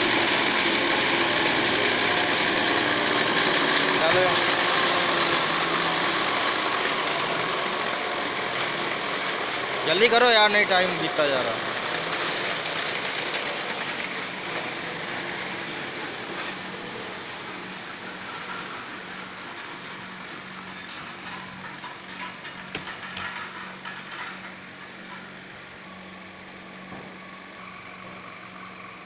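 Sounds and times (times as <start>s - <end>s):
wood-processing machinery running: 0.0s - 29.0s.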